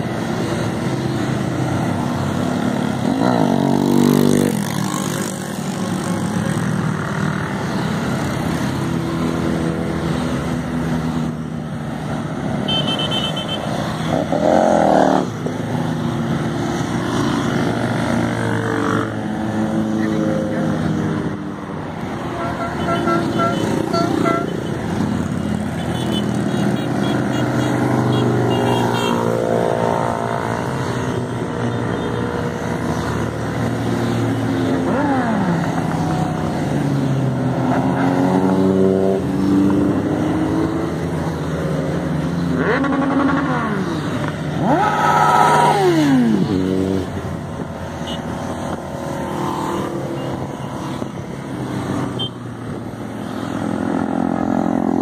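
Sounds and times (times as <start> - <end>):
motorcycles passing by: 0.0 - 55.0.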